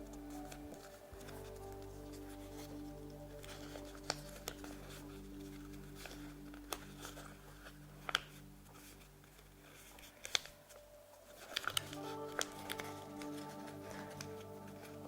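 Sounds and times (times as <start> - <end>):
paper being folded and creased: 0.0 - 15.0
quiet background music: 0.0 - 15.0.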